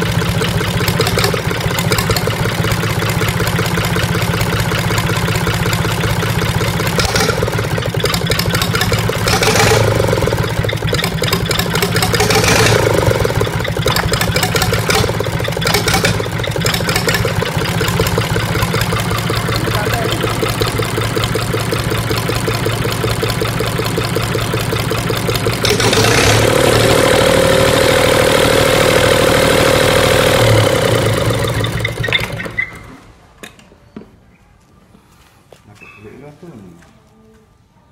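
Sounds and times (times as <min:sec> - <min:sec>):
diesel engine revving: 0:00.0 - 0:32.7.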